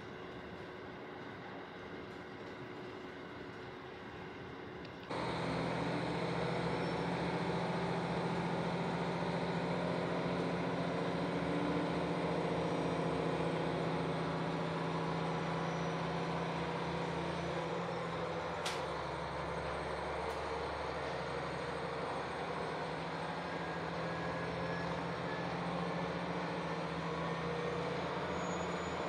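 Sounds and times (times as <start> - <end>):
diesel railcar engine drone: 0.0 - 29.0.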